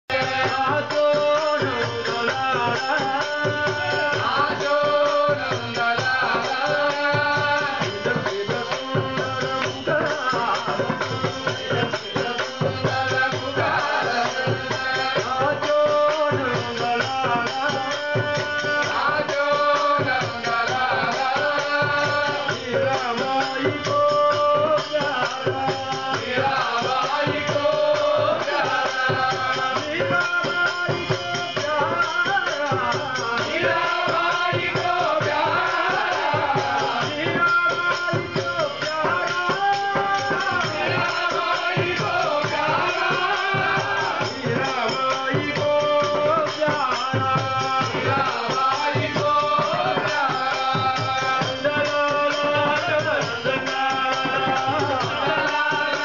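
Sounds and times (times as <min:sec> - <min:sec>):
men singing in unison: 0:00.0 - 0:56.0
drum beat: 0:00.1 - 0:56.0.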